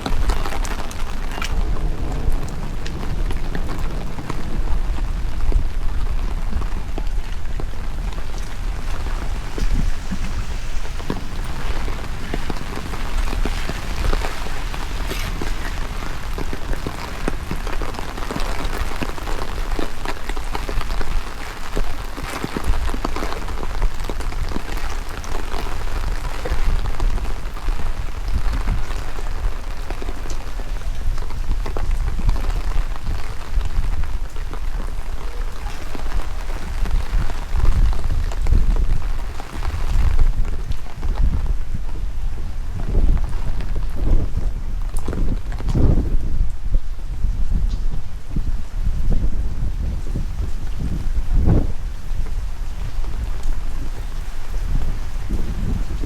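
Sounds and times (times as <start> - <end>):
heavy rain falling: 0.0 - 56.0
wind buffeting microphone: 0.0 - 56.0.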